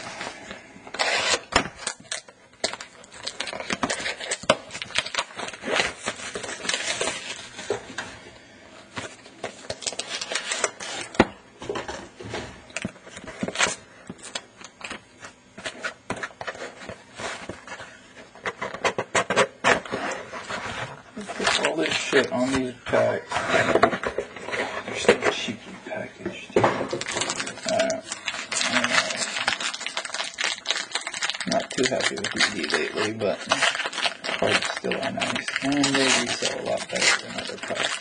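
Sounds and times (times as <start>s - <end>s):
cardboard packaging rustling: 0.0s - 8.1s, 8.8s - 11.9s, 12.7s - 26.0s, 26.8s - 38.0s.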